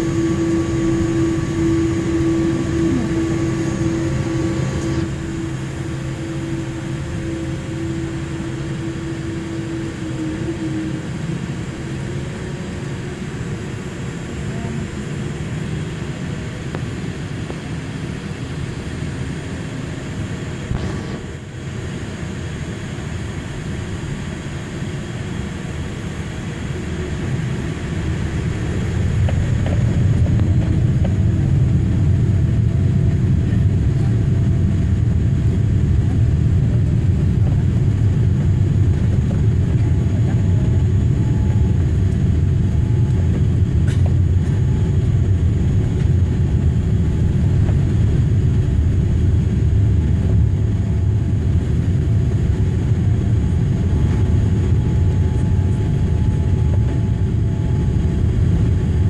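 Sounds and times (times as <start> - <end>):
jet engine hum in cabin: 0.0 - 59.0
low runway rumble: 0.0 - 59.0.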